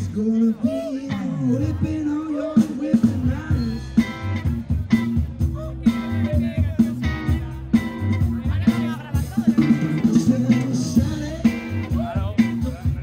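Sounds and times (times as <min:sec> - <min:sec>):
bending electric guitar lead: 0:00.0 - 0:13.0
live blues rock band: 0:00.0 - 0:13.0.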